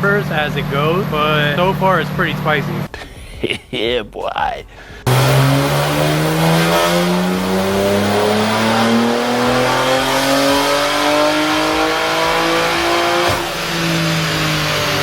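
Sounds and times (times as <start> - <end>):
car engine at full throttle: 0.0 - 3.0, 4.8 - 15.0.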